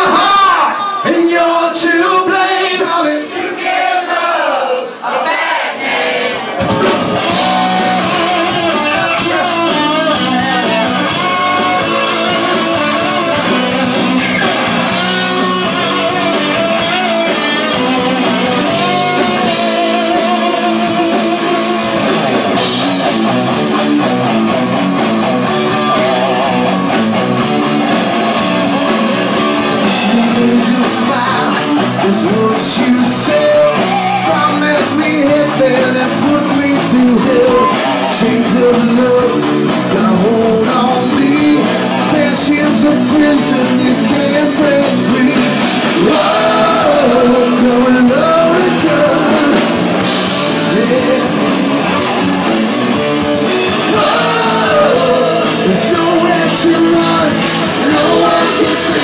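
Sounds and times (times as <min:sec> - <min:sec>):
live rock band playing: 0:06.4 - 0:59.0
drum kit beat: 0:06.5 - 0:59.0
electric guitar: 0:06.6 - 0:59.0.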